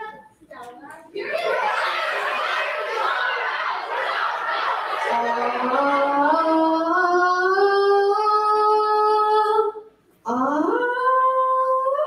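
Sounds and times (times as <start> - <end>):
young voices singing in unison: 1.1 - 12.0.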